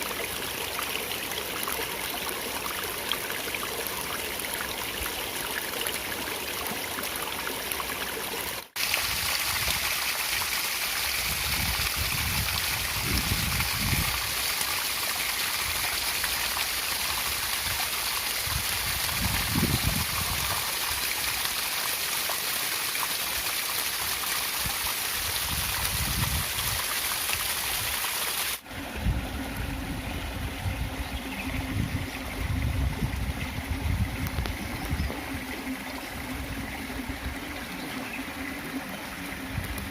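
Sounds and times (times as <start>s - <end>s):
stream water rushing: 0.0s - 39.9s
water gurgling: 0.0s - 39.9s.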